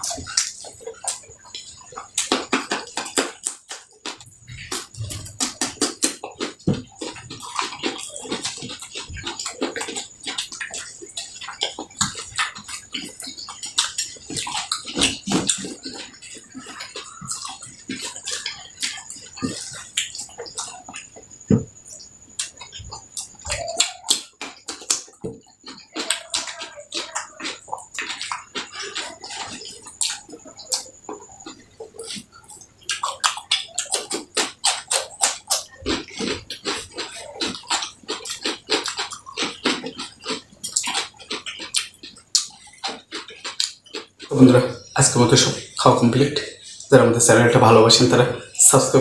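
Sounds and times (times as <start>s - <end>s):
wet chewing and lip-smacking: 0.0s - 47.4s.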